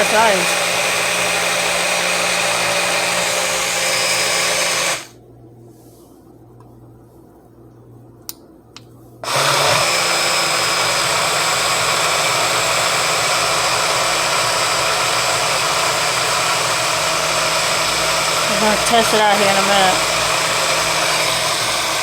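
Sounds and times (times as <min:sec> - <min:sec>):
blender motor running: 0:00.0 - 0:05.2, 0:09.2 - 0:22.0.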